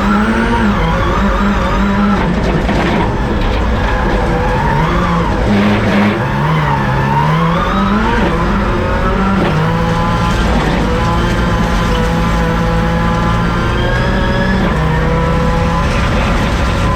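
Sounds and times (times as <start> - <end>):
rally car engine revving: 0.0 - 16.9
tyres on loose dirt: 0.0 - 16.9.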